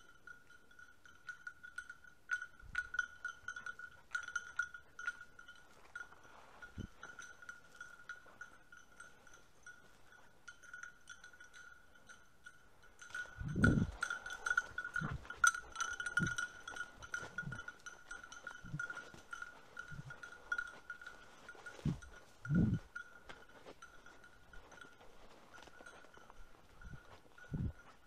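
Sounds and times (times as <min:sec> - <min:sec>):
dog bell jingling: 0:00.0 - 0:28.0.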